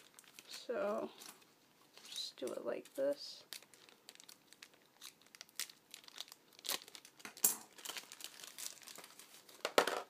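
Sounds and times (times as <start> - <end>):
packaging crinkling: 0.0 - 1.5, 2.4 - 9.8.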